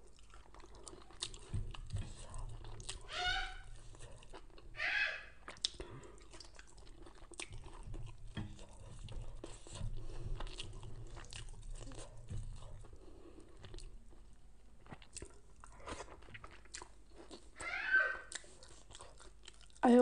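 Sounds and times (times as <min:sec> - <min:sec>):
person chewing crunchy food: 0:00.0 - 0:19.8.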